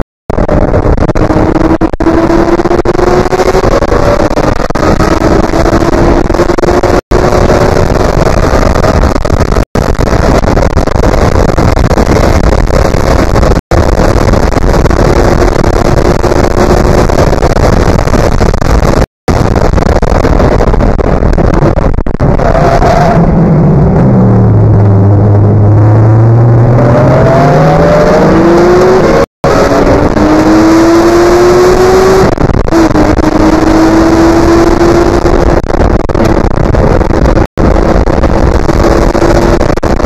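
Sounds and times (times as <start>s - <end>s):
engine running at high revs: 0.0s - 40.0s
heavy wind noise: 0.0s - 40.0s.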